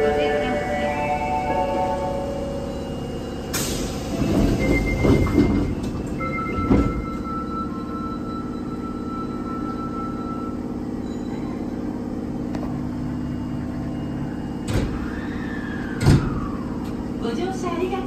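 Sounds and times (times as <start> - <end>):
subway car equipment hum: 0.0 - 18.0.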